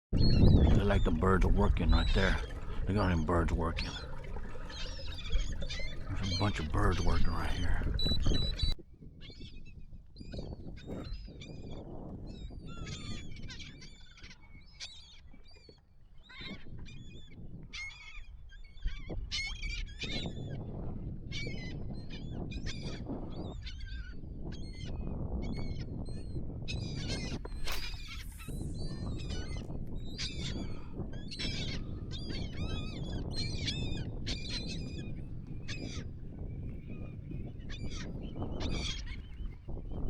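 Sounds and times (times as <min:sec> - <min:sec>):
seabirds calling: 0:00.2 - 0:40.0.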